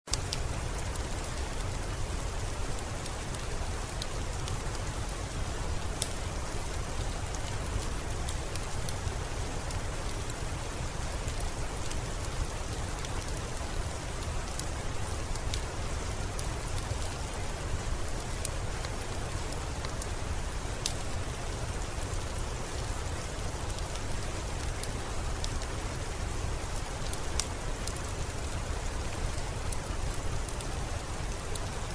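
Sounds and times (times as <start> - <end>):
raindrop ticks: 0.1 - 31.9
steady rainfall hiss: 0.1 - 31.9.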